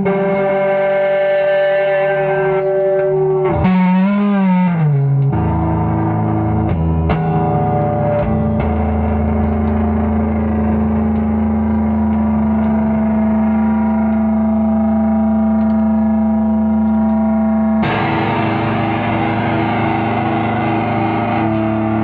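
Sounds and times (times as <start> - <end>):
distorted electric guitar chords: 0.0 - 22.0.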